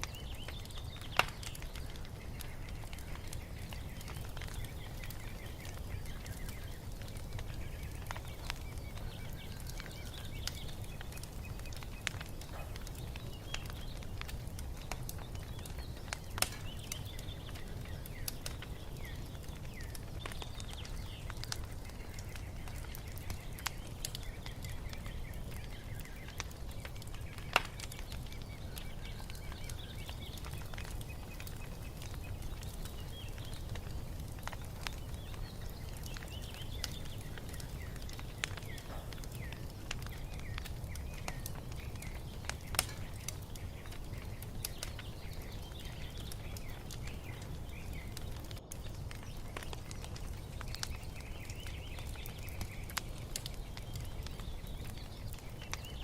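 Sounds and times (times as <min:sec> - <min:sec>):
faint bird chirps: 0:00.0 - 0:56.0
wood fire crackling and popping: 0:00.0 - 0:56.0.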